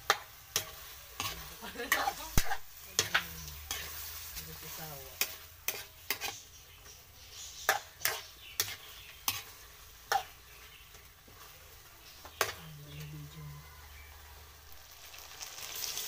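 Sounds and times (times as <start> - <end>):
metal spatula scraping wok: 0.0 - 14.3
food sizzling: 0.0 - 16.0.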